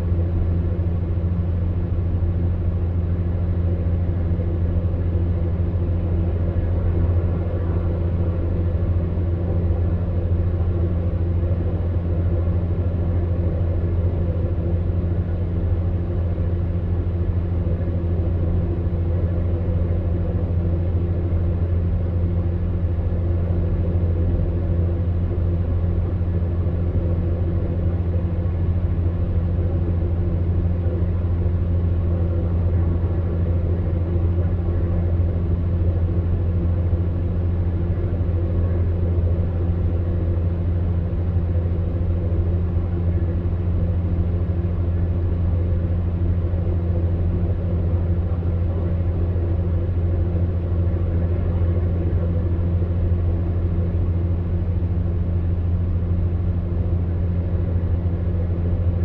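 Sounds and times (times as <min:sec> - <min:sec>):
fan heater motor hum: 0:00.0 - 0:59.0.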